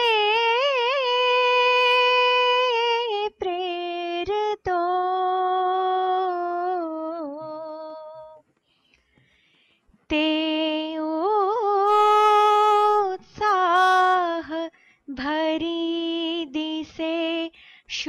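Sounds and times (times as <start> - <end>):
woman singing slow melody: 0.0 - 8.4, 10.1 - 18.0.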